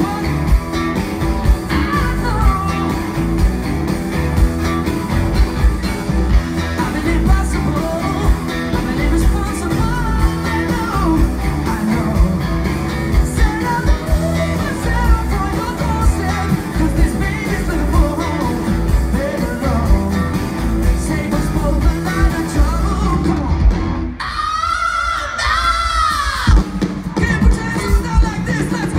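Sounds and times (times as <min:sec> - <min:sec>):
man singing lead vocal: 0:00.0 - 0:00.8, 0:01.6 - 0:03.2, 0:06.5 - 0:28.9
live rock band playing: 0:00.0 - 0:24.4, 0:25.0 - 0:28.9.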